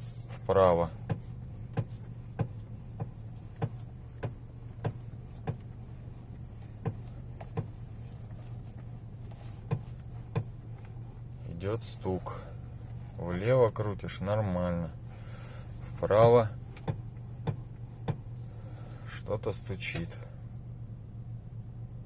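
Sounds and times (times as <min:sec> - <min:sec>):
low hum: 0:00.0 - 0:22.0
steering knocking: 0:00.6 - 0:20.2.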